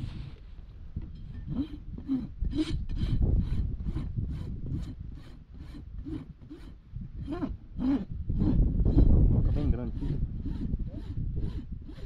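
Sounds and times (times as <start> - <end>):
rasp filing hoof: 1.3 - 12.0.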